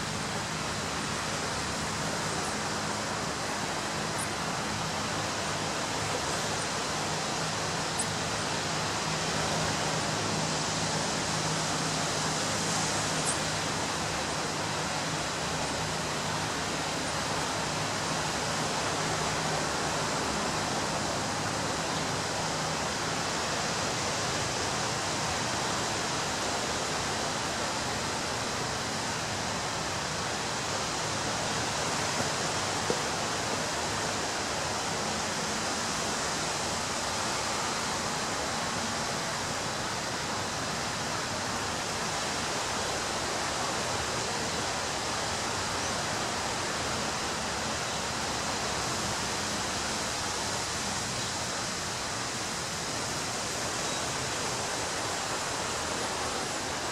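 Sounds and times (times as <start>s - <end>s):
waves breaking on beach: 0.0s - 56.9s.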